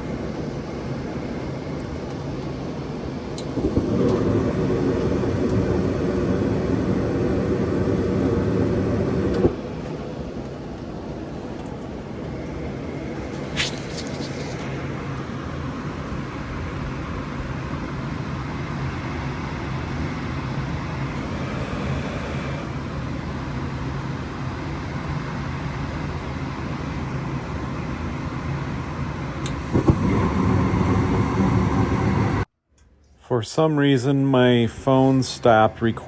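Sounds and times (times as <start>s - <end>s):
gas furnace humming: 0.0s - 32.5s.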